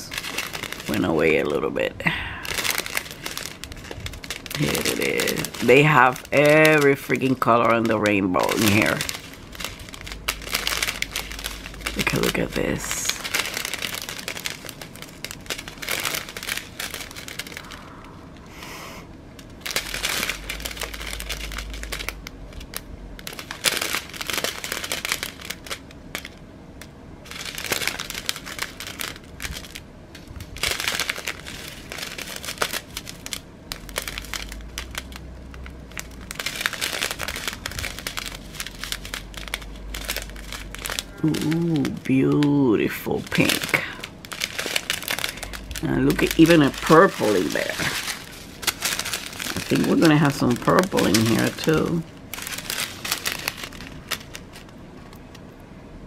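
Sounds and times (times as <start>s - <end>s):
plastic bags crinkling: 0.0s - 55.6s.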